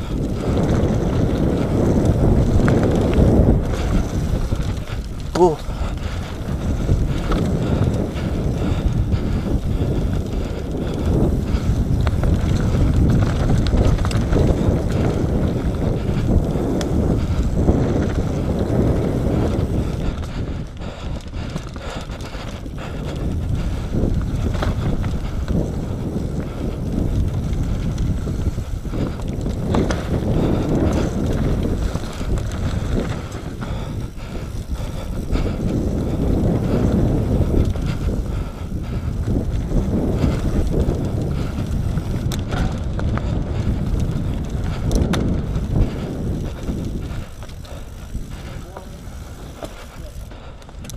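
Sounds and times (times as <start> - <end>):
bike rattles and knocks: 0.0 - 50.9
wind rushing over microphone: 0.0 - 50.9.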